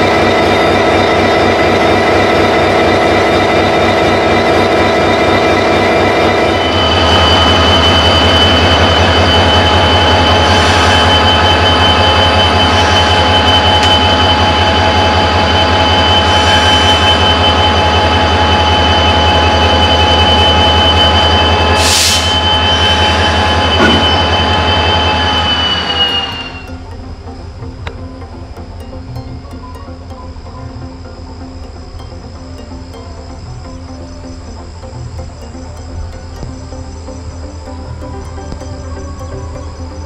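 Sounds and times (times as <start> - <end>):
constant high whine: 0.0 - 40.0
train rumbling at speed: 0.0 - 40.0.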